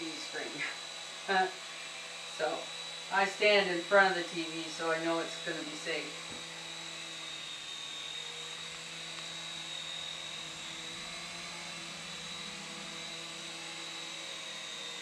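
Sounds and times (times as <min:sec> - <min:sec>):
electric motors high-pitched whine: 0:00.0 - 0:15.0
rotors whirring: 0:00.0 - 0:15.0.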